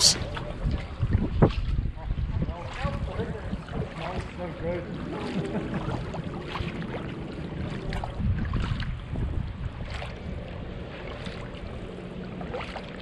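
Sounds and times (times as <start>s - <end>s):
paddle splashing in water: 0.0s - 13.0s
wind rumble on microphone: 0.0s - 13.0s.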